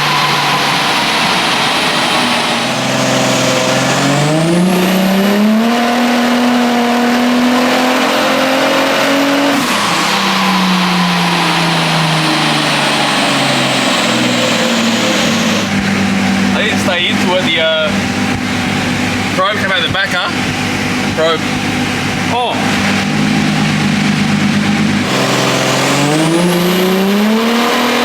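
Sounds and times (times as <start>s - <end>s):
car engine revving: 0.0s - 28.0s
high turbo whine: 0.0s - 28.0s.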